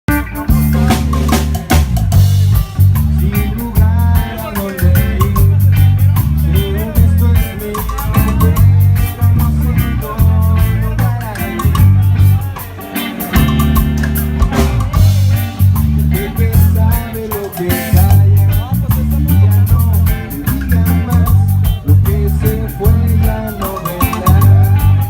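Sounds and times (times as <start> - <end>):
bass line: 0.0 - 25.0
guitar: 0.0 - 25.0
drum kit with cymbals: 0.1 - 25.0
person singing: 2.8 - 25.0.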